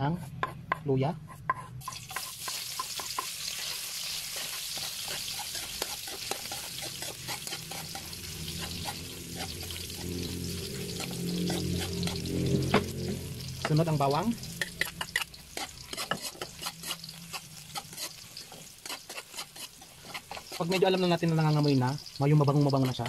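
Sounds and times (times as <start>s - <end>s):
ginger sizzling in oil: 1.8s - 23.0s.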